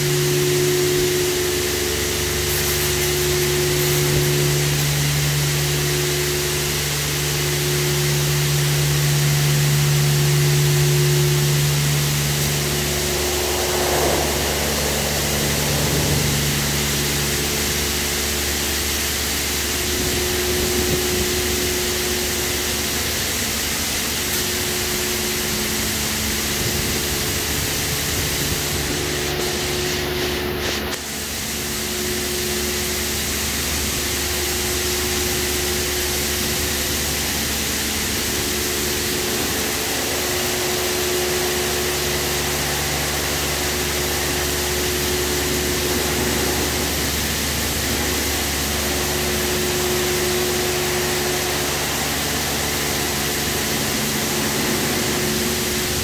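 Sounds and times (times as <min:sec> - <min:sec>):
motor hum: 0:00.0 - 0:56.0
water spray hissing: 0:00.0 - 0:56.0.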